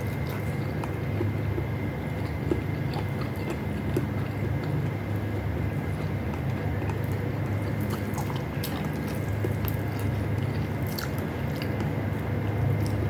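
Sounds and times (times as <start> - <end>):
chewing food close up: 0.0 - 13.0
steady low hum: 0.0 - 13.0.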